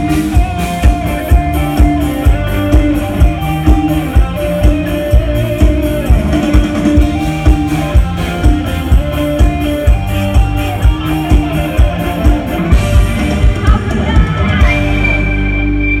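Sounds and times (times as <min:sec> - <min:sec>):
drum kit steady beat: 0:00.0 - 0:15.6
guitar: 0:00.0 - 0:16.0
live band playing: 0:00.0 - 0:16.0.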